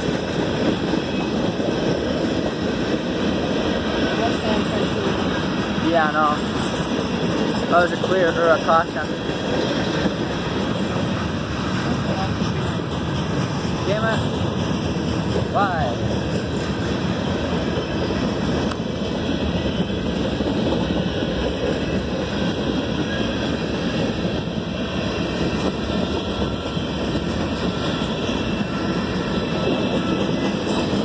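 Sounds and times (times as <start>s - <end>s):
freight train rolling past: 0.0s - 31.0s.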